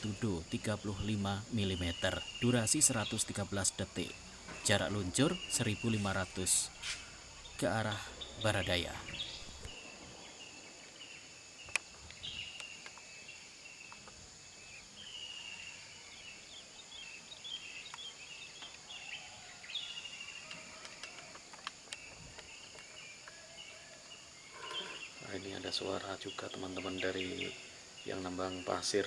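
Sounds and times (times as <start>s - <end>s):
birds chirping and trilling: 0.0s - 29.0s
insects droning: 0.0s - 29.0s.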